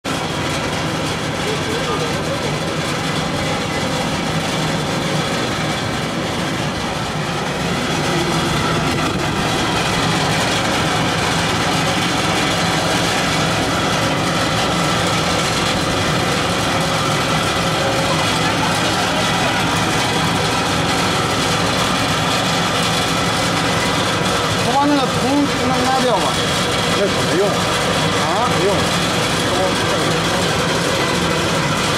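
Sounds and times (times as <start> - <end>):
blower fan: 0.0 - 31.9.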